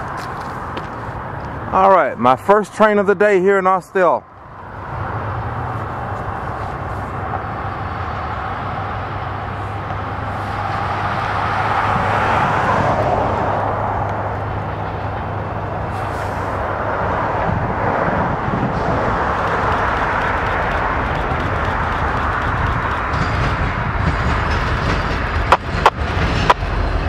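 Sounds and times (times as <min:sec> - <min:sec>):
locomotive engine drone: 0:00.0 - 0:27.0
train rushing noise: 0:03.8 - 0:27.0.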